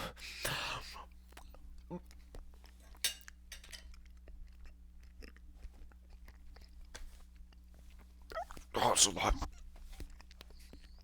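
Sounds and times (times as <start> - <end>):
person chewing food: 0.3 - 11.0.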